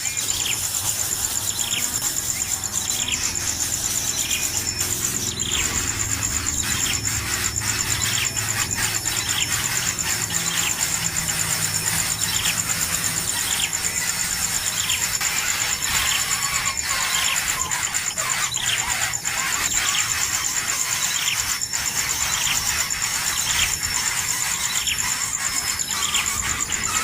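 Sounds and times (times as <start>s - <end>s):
high-pitched insect trill: 0.0s - 27.0s.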